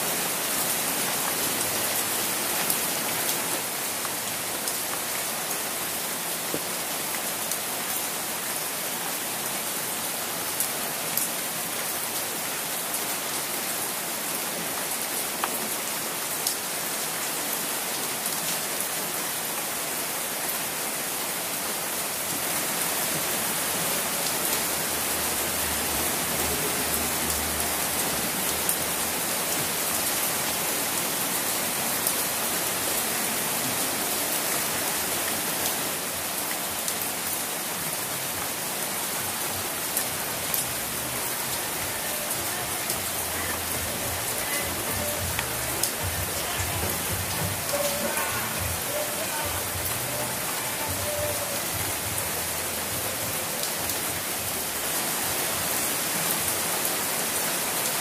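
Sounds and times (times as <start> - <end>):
rain on an umbrella: 0.0 - 58.0.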